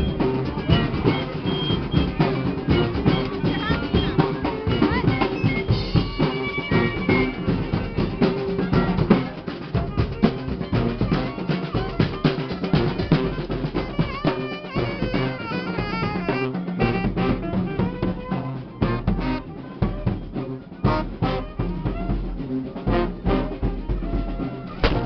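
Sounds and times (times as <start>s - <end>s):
horns holding notes: 0.0s - 25.0s
snare and bass drums: 0.0s - 25.0s.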